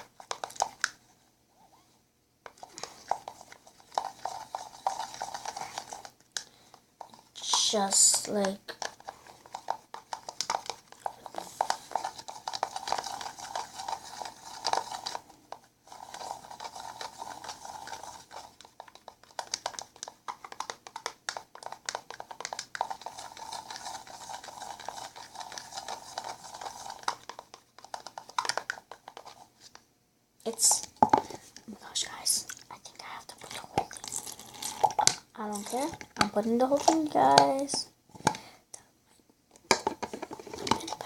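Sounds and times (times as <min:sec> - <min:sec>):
slime stirred with utensil: 0:00.0 - 0:01.1, 0:02.4 - 0:29.8, 0:32.3 - 0:37.8, 0:39.7 - 0:41.0.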